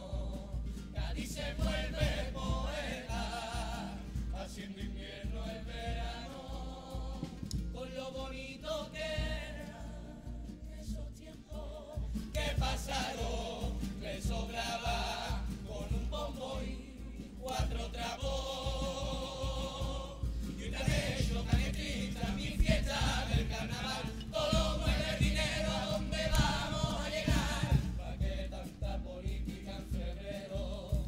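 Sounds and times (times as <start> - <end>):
guitar accompaniment: 0.0 - 31.0
young singers singing as a choir: 0.0 - 31.0.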